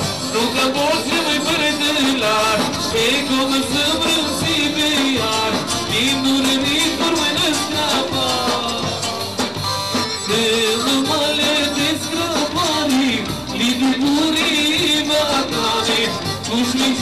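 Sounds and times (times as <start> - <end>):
instrumental backing with beat: 0.0 - 17.0
person singing: 0.2 - 9.2, 10.2 - 17.0.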